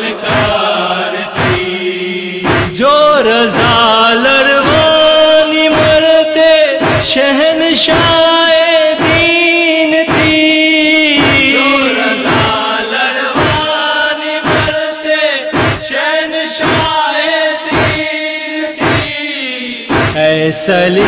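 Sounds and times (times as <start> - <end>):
chorus of voices chanting: 0.0 - 21.0
rhythmic chest-beating: 0.0 - 21.0.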